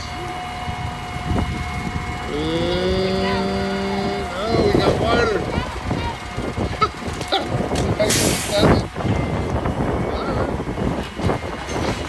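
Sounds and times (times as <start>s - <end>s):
deep rising hydraulic groan: 0.0s - 12.0s
hydraulics whining: 0.0s - 12.0s.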